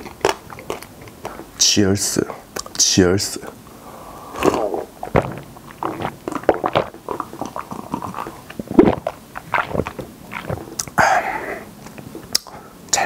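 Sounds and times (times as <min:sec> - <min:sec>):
man gulping and swallowing: 0:00.0 - 0:01.6, 0:03.4 - 0:13.0.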